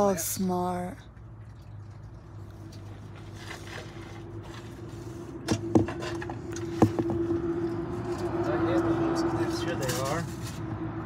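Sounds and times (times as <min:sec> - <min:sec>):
engine-like drone: 0:00.2 - 0:11.0.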